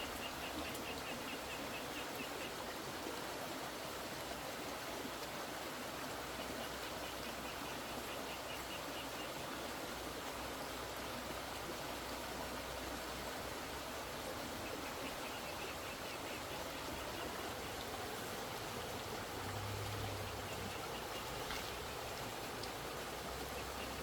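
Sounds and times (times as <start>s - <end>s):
rushing flowing water: 0.0s - 24.0s.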